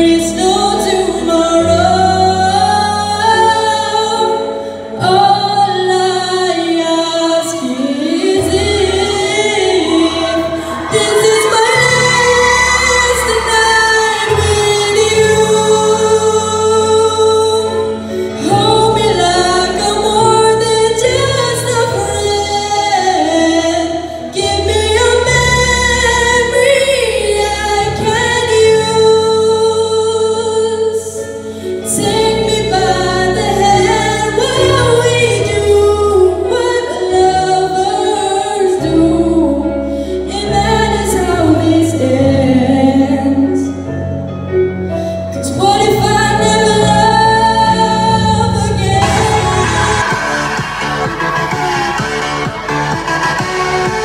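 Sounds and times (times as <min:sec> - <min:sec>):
person singing into a microphone: 0:00.0 - 0:44.0
musical accompaniment with bass: 0:00.0 - 0:54.0.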